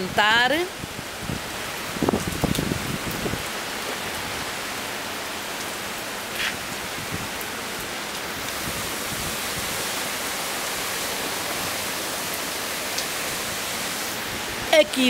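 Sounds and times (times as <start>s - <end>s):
strong wind: 0.0s - 4.8s, 6.5s - 14.9s
heavy rain: 0.0s - 15.0s.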